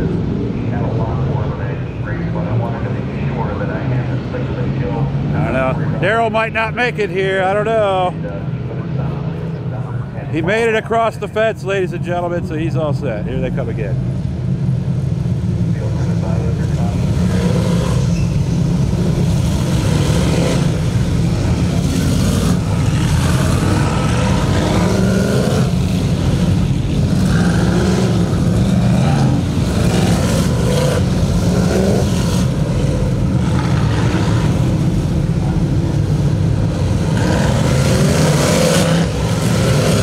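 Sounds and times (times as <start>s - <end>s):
low engine drone: 0.0s - 6.1s, 12.4s - 40.0s
race car engines passing: 0.0s - 40.0s.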